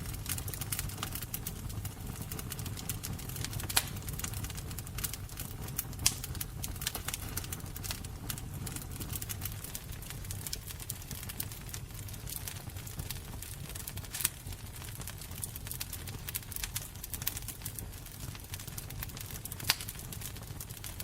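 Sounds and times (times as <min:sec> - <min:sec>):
low rumble of flame: 0:00.0 - 0:21.0
wood fire crackling and popping: 0:00.0 - 0:21.0.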